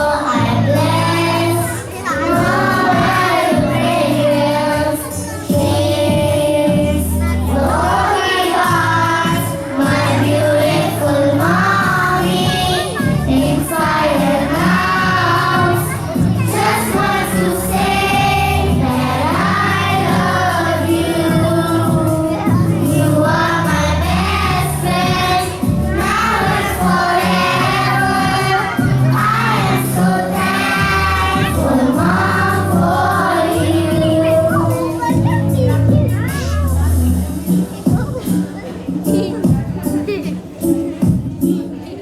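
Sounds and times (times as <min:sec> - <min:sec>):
children singing in chorus: 0:00.0 - 0:35.2
recorded musical accompaniment: 0:00.0 - 0:42.0.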